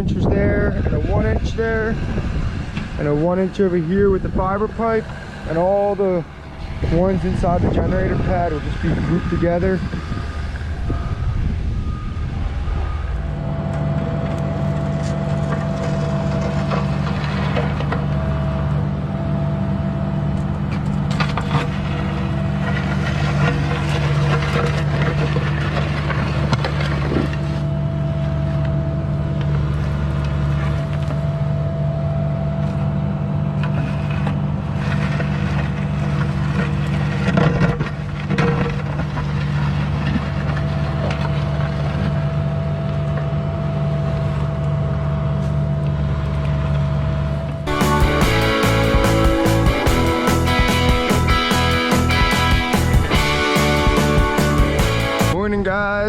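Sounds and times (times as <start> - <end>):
excavator diesel engine running: 0.0 - 55.4.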